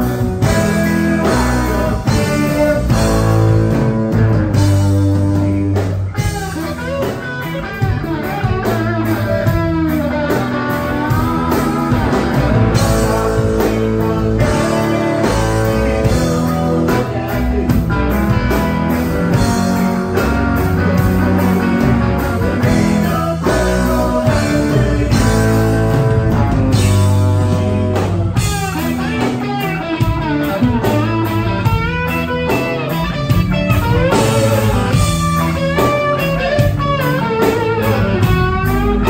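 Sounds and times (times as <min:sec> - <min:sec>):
drum kit: 0:00.0 - 0:39.0
electric bass: 0:00.0 - 0:39.0
electric guitars: 0:00.0 - 0:39.0
lead guitar bending notes: 0:00.0 - 0:39.0.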